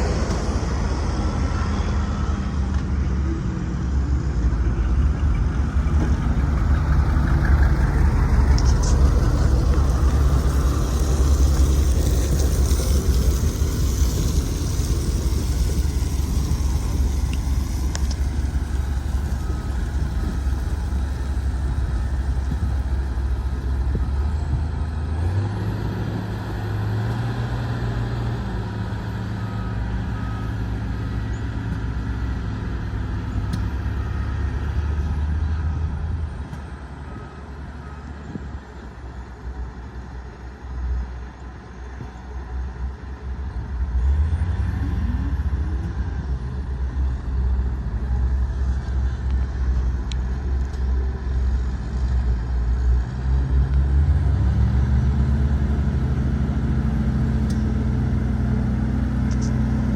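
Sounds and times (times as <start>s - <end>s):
road roller diesel engine running: 0.0s - 59.9s.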